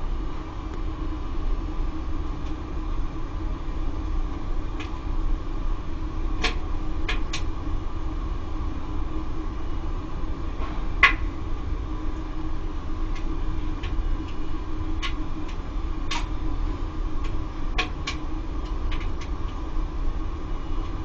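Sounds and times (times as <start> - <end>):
circulation pump humming: 0.0 - 21.0.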